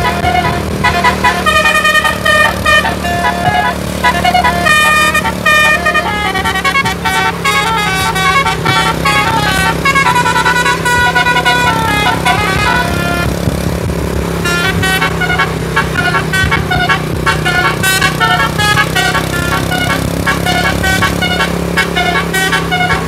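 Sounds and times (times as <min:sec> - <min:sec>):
musical air horn tune: 0:00.0 - 0:13.5, 0:14.4 - 0:23.0
bus engine low hum: 0:00.0 - 0:23.0.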